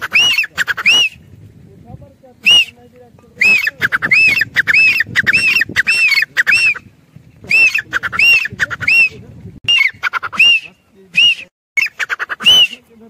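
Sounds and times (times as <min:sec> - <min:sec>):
francolin calling: 0:00.0 - 0:01.3, 0:02.4 - 0:13.0.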